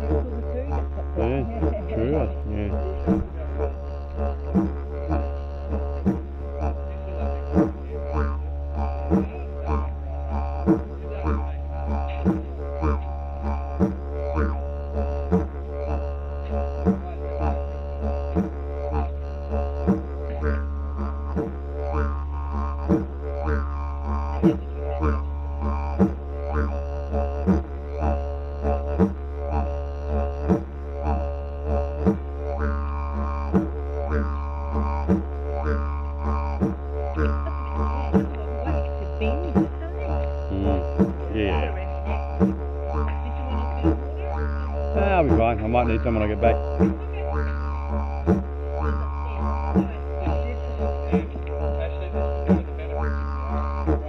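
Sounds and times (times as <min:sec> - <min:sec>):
steady percussion beat: 0:00.0 - 0:29.6, 0:30.4 - 0:54.0
didgeridoo drone: 0:00.0 - 0:54.0.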